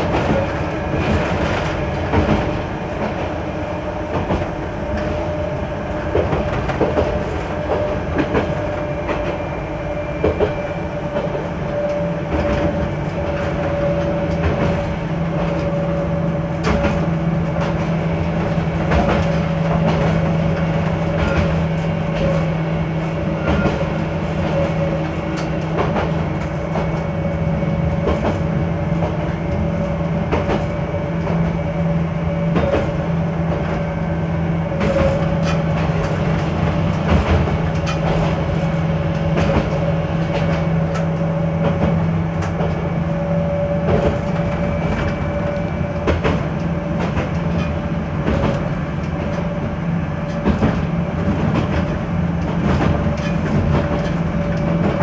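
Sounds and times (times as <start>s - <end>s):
wheels clacking over rail joints: 0.0s - 9.4s, 10.2s - 27.1s, 34.7s - 55.0s
railcar engine drone: 0.0s - 55.0s.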